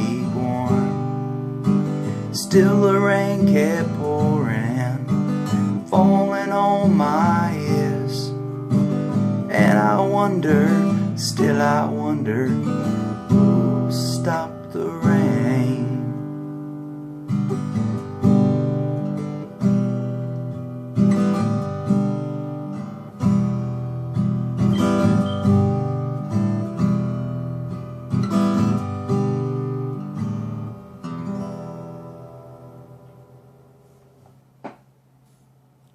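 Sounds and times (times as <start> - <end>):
acoustic guitar strumming chords: 0.0 - 34.9.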